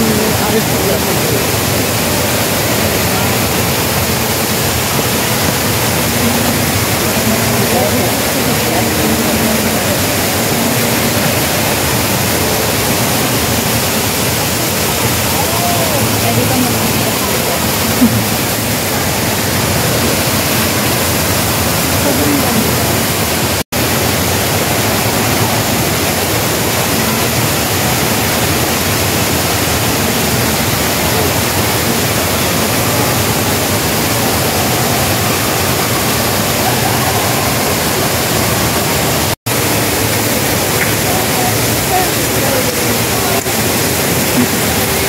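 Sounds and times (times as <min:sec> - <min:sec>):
indoor waterfall rushing: 0:00.0 - 0:45.0.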